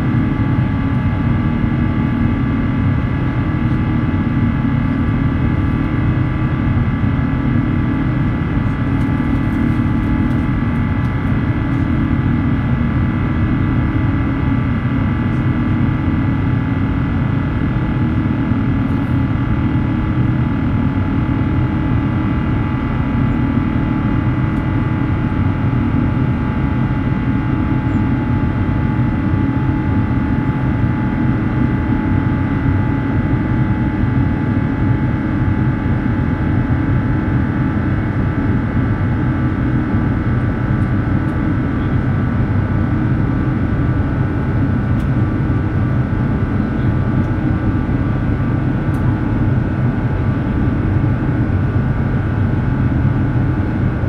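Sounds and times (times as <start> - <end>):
jet engine cabin rumble: 0.0 - 54.0
whining fan tones: 0.0 - 54.0.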